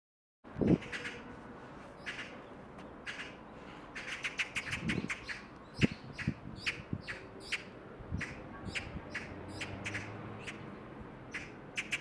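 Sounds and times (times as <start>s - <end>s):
small birds chirping: 1.9s - 12.0s.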